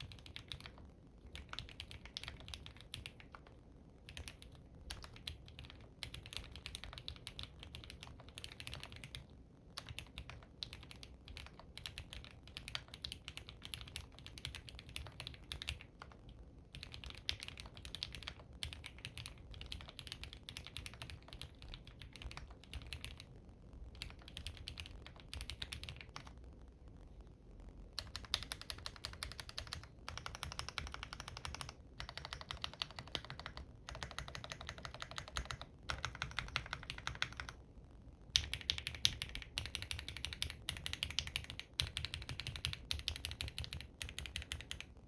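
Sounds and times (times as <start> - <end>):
mechanical keyboard typing: 0.0 - 23.3, 23.9 - 26.4, 28.0 - 37.6, 38.3 - 45.0.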